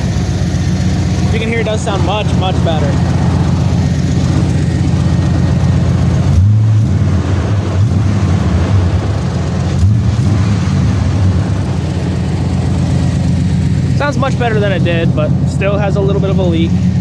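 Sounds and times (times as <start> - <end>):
pickup engine idling and revving: 0.0 - 17.0.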